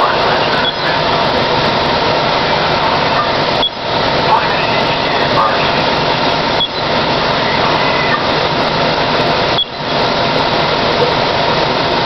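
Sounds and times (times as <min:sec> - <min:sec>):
fire apparatus mechanical drone: 0:00.0 - 0:12.0.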